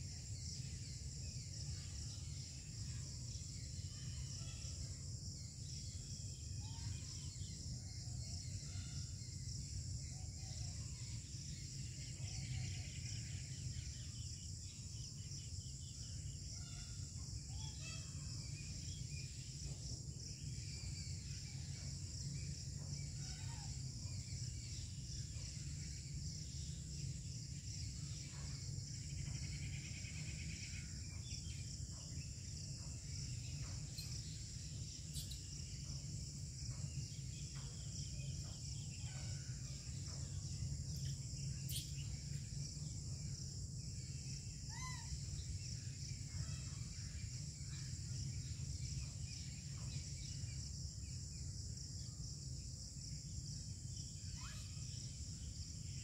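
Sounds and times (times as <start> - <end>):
faint chirps: 0.0 - 56.0.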